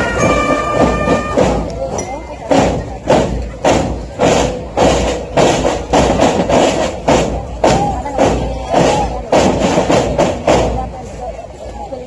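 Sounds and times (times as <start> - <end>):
marching drums with snare rattle: 0.0 - 11.7.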